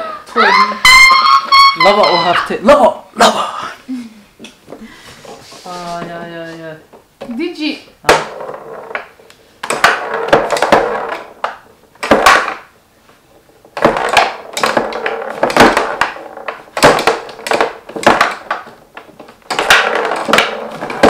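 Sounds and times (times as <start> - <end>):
foosball rods and ball clacking: 0.2 - 2.6, 4.4 - 21.0.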